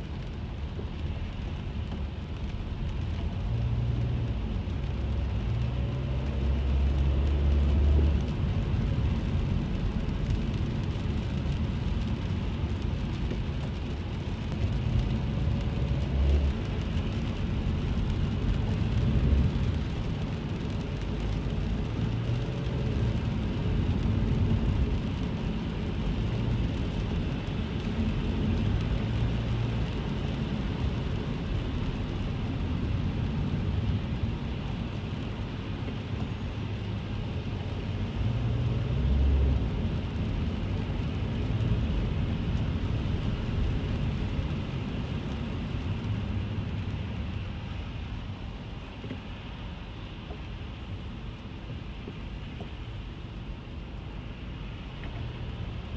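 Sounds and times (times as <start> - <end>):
car engine and tyres rumbling: 0.0 - 55.9
light rain on car: 0.0 - 55.9.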